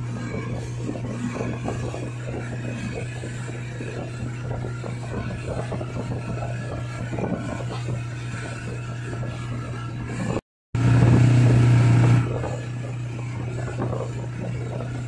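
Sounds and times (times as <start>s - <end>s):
churning wake splashing: 0.0s - 15.0s
outboard motor drone: 0.0s - 15.0s.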